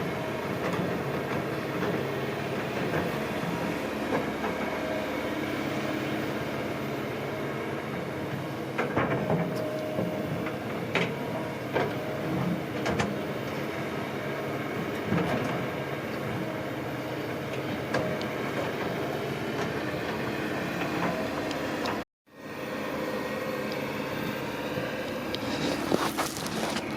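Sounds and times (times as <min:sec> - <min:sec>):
heavy diesel engine running: 0:00.0 - 0:21.8.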